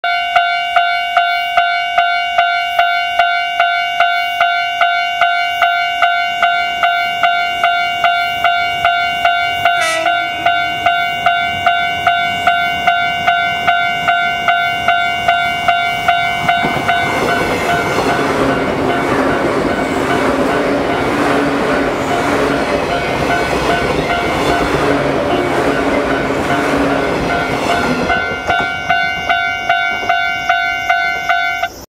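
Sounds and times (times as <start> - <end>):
level-crossing alarm ringing: 0.0 - 31.9
electric train passing: 0.1 - 31.9.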